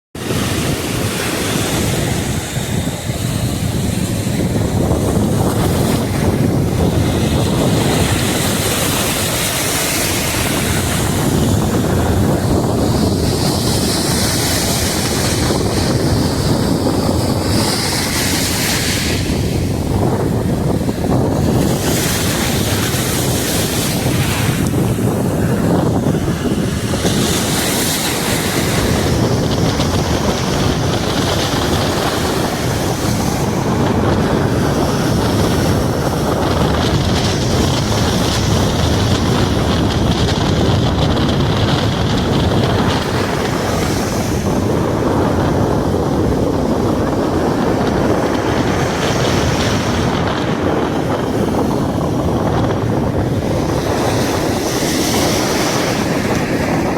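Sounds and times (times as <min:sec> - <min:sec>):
wind buffeting microphone: 0:00.1 - 0:56.9
sea waves breaking on shore: 0:00.2 - 0:56.9.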